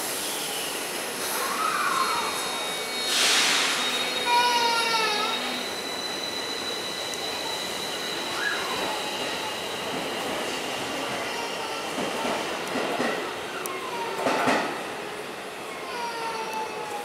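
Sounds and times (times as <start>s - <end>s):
high-pitched train whine: 0.0s - 17.0s
train wheels on rails: 0.0s - 17.0s.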